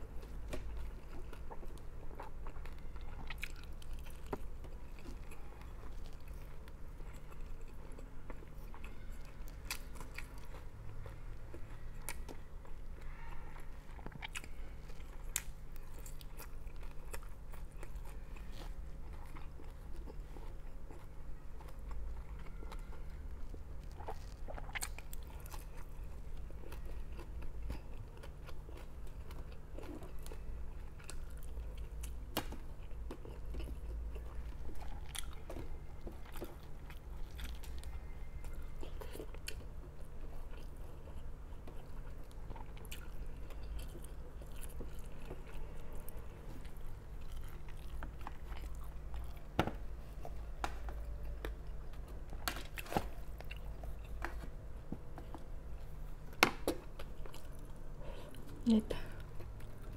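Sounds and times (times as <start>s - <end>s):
person chewing with crunches and clicks: 0.0s - 59.9s.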